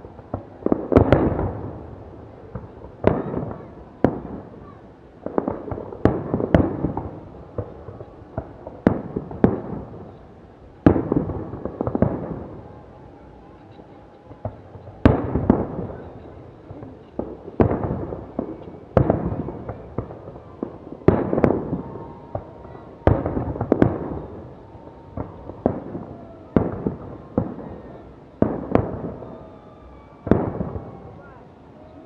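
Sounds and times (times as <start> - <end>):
fireworks bursts echoing: 0.0 - 31.9.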